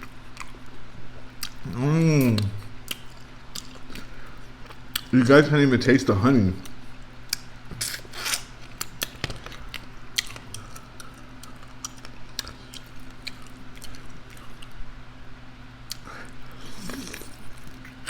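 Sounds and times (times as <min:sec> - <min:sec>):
chewing and lip-smacking: 0:00.0 - 0:05.1, 0:06.6 - 0:14.9, 0:15.8 - 0:18.0
steady low hum: 0:00.0 - 0:18.0.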